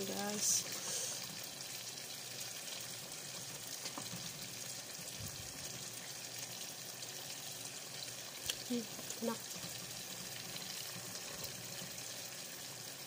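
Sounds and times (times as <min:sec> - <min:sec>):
chicken sizzling in sauce: 0:00.0 - 0:13.0.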